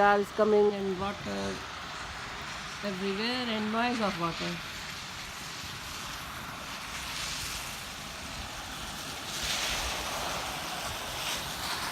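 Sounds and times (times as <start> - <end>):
car tyres hissing through water: 1.2 - 11.9.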